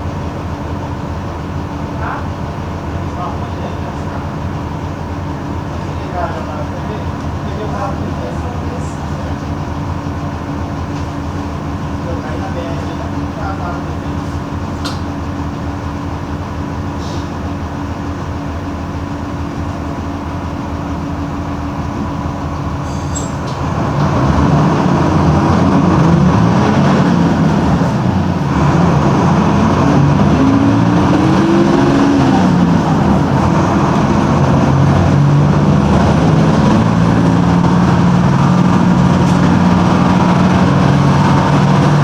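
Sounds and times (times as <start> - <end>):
bus diesel engine revving: 0.0 - 42.0.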